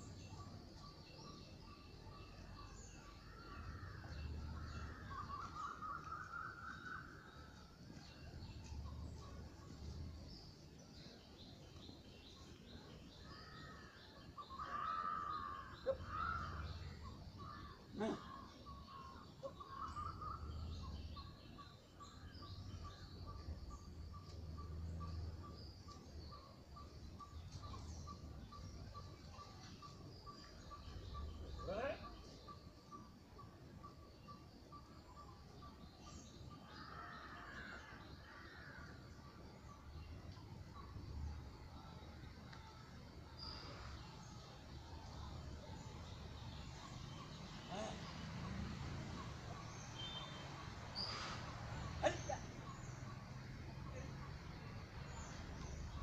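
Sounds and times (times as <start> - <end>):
birds calling and chirping: 0.0 - 56.0.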